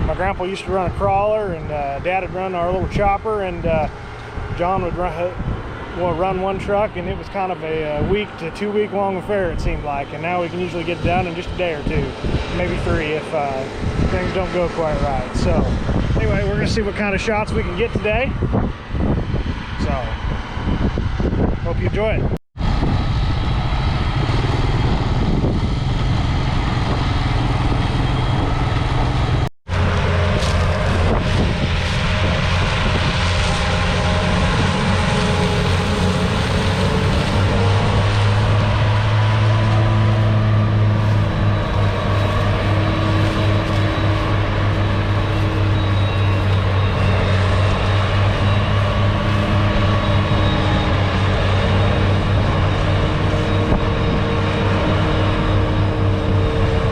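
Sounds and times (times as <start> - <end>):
diesel farm machinery engine drone: 0.0 - 56.9.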